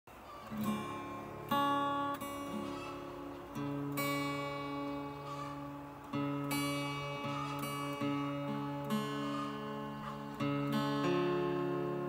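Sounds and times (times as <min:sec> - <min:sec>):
acoustic guitar chords: 0:00.1 - 0:12.0.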